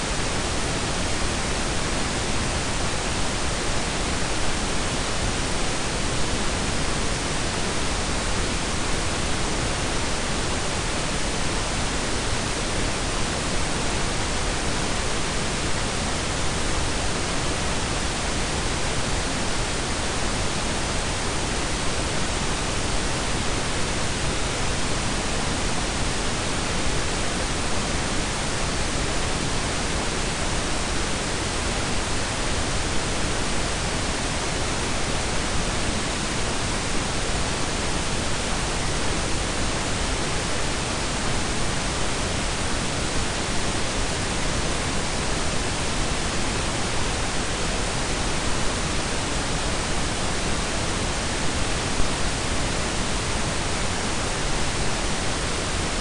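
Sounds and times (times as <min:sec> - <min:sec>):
steady noise hiss: 0:00.0 - 0:56.0.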